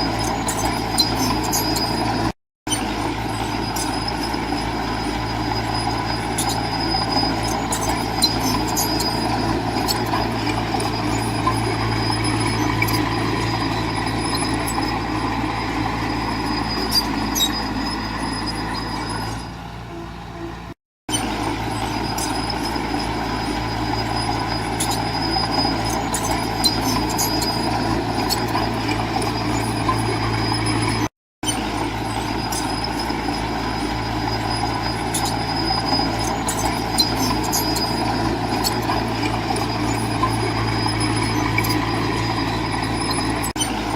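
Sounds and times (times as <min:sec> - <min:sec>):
diesel earthmoving machinery running: 0:00.0 - 0:43.9.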